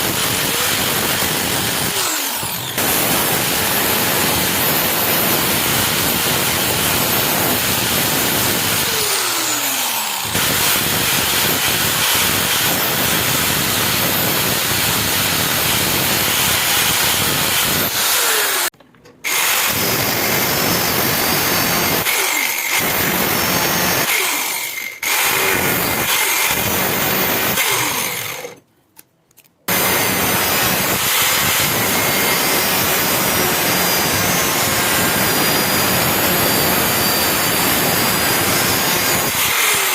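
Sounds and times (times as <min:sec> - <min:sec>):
power tool grinding steel blade: 0:00.0 - 0:28.6, 0:29.7 - 0:39.9.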